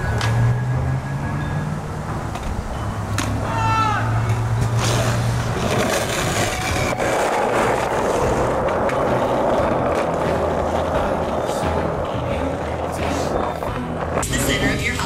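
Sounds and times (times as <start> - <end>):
skateboard wheels rumbling: 0.0 - 15.0.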